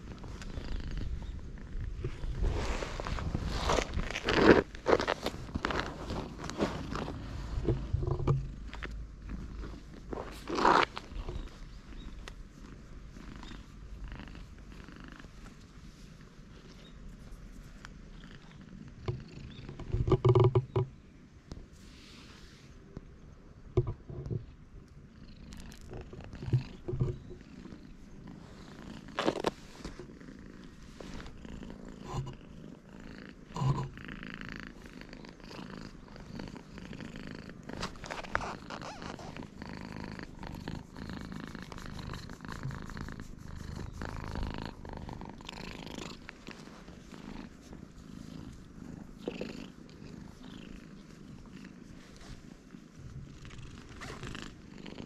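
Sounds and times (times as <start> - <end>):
cat purring: 0.0 - 23.3, 23.9 - 55.0.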